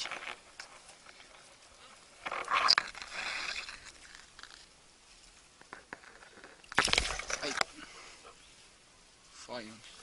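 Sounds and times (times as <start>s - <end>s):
grass rustling and scraping: 0.0s - 10.0s.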